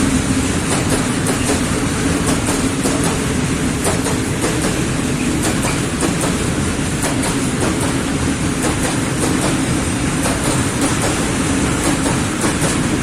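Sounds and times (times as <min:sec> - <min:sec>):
freight train rumbling past: 0:00.0 - 0:13.0
wheels clacking over rail joints: 0:00.6 - 0:13.0.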